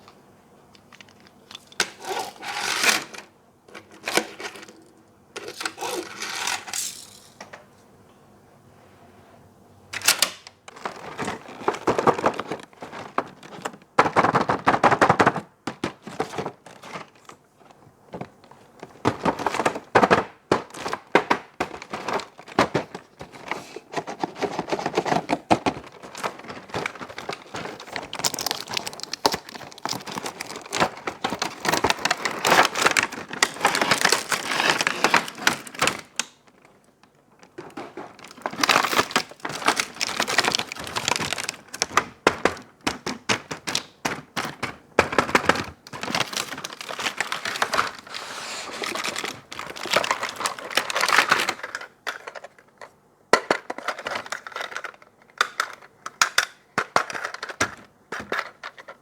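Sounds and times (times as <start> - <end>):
crinkling plastic and cardboard: 0.8 - 7.4, 10.0 - 59.0.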